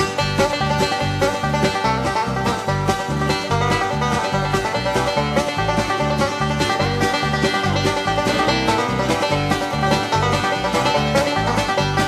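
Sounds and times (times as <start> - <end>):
bass line: 0.0 - 12.0
upbeat string-band music: 0.0 - 12.0.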